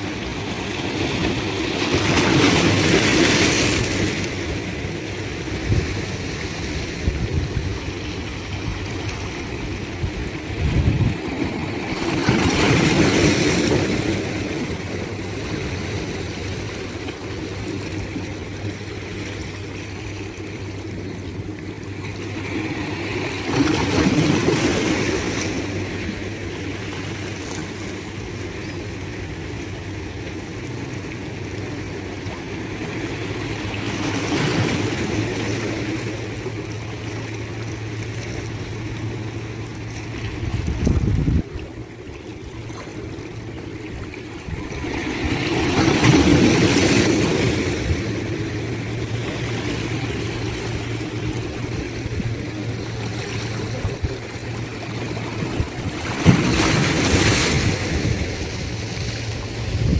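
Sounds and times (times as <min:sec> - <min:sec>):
sea waves washing in: 0:00.0 - 0:59.9
steady low hum: 0:03.8 - 0:59.9.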